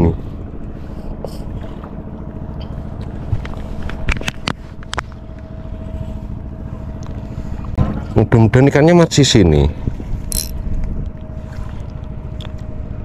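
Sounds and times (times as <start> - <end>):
faint steady hum: 0.0 - 8.1, 9.2 - 13.0
boat motor rumbling: 0.0 - 13.0.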